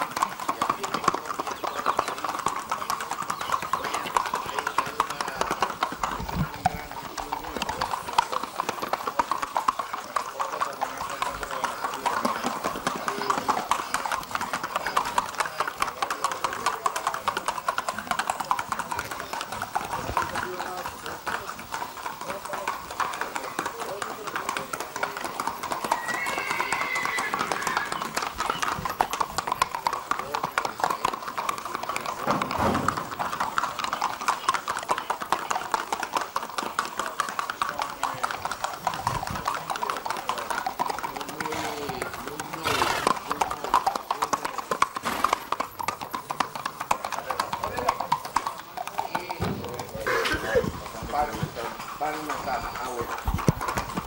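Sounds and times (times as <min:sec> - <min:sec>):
hoofbeats on paving: 0:00.0 - 0:54.0
horse hooves on brick: 0:00.0 - 0:54.0.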